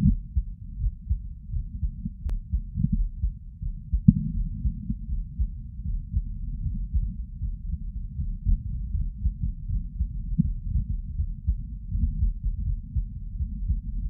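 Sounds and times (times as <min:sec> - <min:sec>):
heartbeat thumps: 0:00.0 - 0:14.0.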